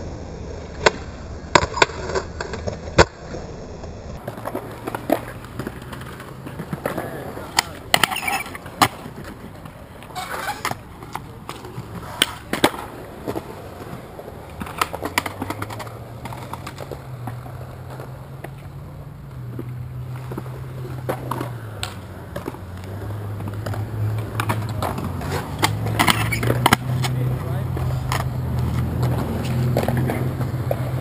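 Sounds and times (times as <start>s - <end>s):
skateboard wheels rolling on concrete: 0.0s - 31.0s
skateboard clicks and knocks: 0.4s - 31.0s.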